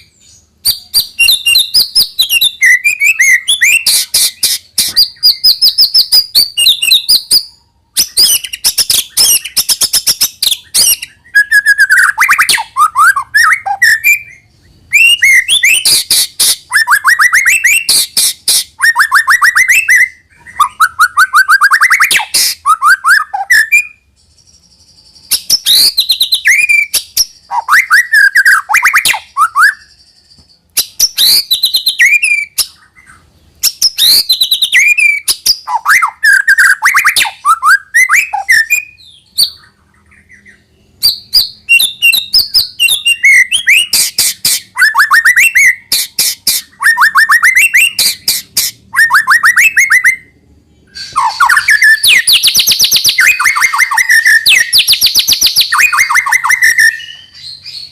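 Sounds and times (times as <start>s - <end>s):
bird singing varied phrases: 0.0s - 57.9s.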